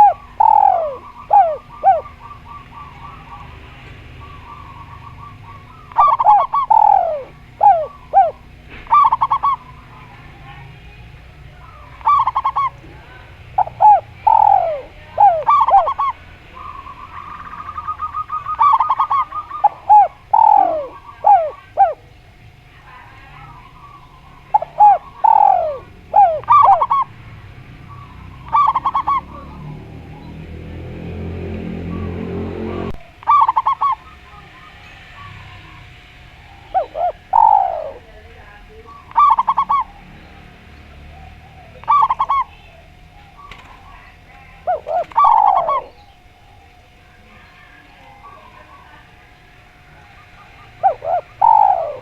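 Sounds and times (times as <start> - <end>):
doves cooing: 0.0 - 52.0
rapid purring trills: 0.0 - 52.0.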